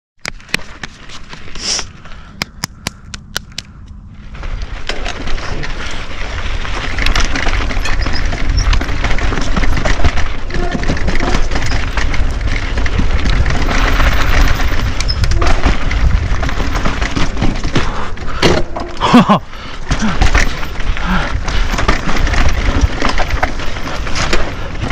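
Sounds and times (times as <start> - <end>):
bike rattling: 0.2 - 24.9
tyres crunching over rocks: 0.2 - 24.9.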